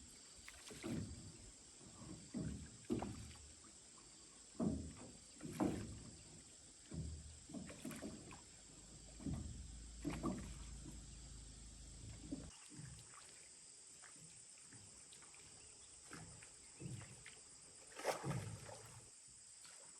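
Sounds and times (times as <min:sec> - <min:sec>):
paddle splashing in water: 0:00.0 - 0:19.9.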